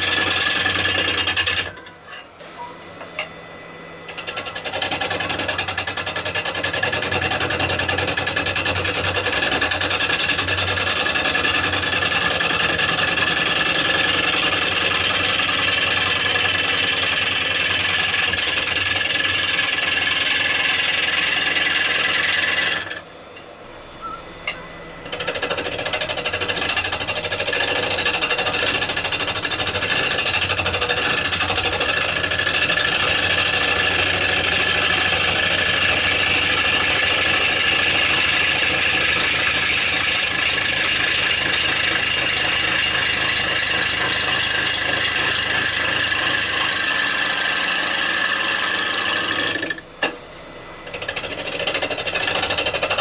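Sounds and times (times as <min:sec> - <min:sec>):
wood lathe gouge cutting: 0:00.0 - 0:01.9, 0:04.1 - 0:23.1, 0:25.0 - 0:50.2, 0:50.8 - 0:53.0.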